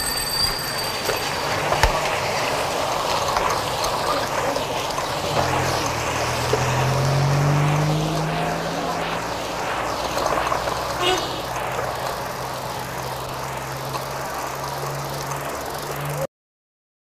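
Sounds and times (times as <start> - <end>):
car engine humming: 0.0 - 16.3
steady rushing noise: 0.0 - 16.3.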